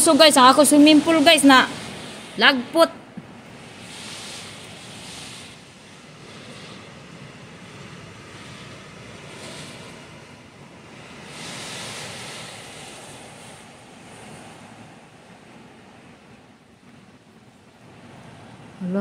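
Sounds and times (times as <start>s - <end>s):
gusty wind through foliage: 0.0s - 19.0s.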